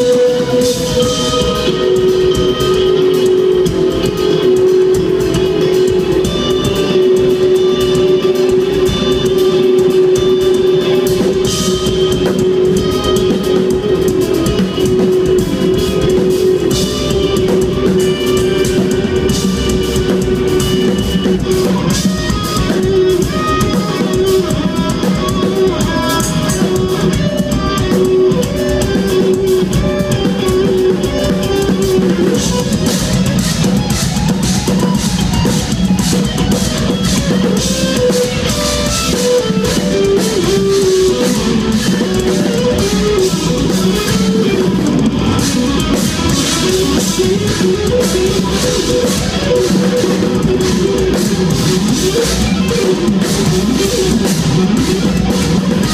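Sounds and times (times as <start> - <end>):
drum kit: 0.0 - 55.9
electric guitar lines: 0.0 - 55.9.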